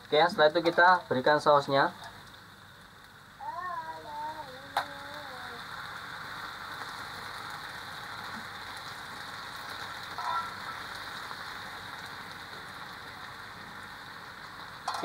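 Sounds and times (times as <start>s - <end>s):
sauce sizzling on hot plate: 0.0s - 15.0s.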